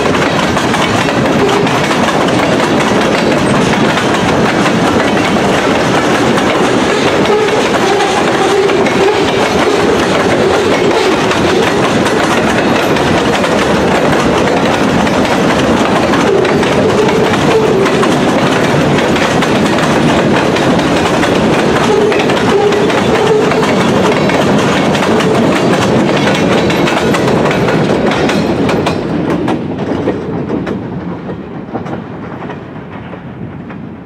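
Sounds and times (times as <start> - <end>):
wheels clicking over rail joints: 0.0 - 33.9.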